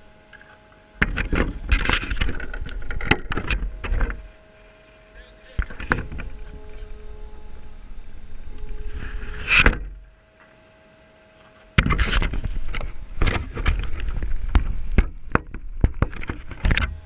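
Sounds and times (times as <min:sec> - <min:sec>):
faint steady tone: 0:00.0 - 0:17.0.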